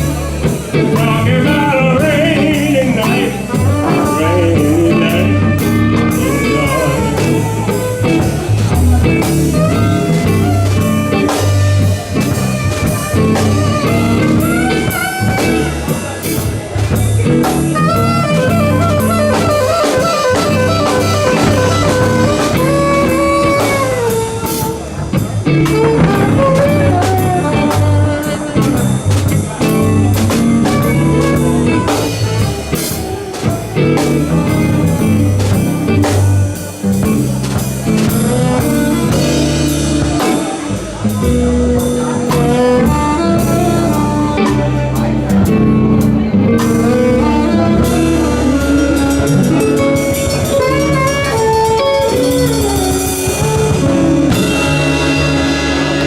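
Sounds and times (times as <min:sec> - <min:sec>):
blues band playing: 0:00.0 - 0:56.0
wavering lead melody: 0:00.0 - 0:56.0.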